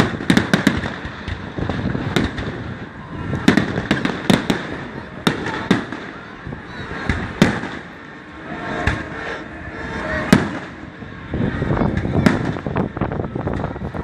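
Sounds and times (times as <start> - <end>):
fireworks bangs: 0.0 - 14.0
fireworks crackling bursts: 0.0 - 14.0.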